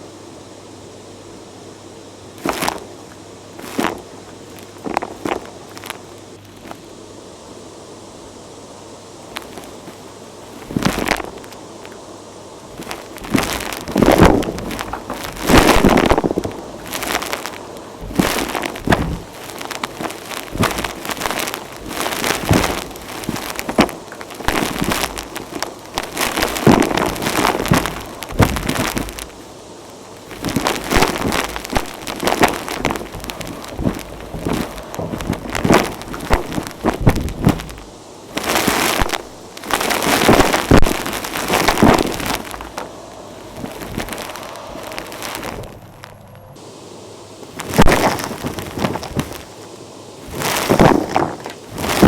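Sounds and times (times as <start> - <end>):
grit crackling up vacuum hose: 2.3 - 7.2, 9.2 - 46.8, 47.4 - 52.0.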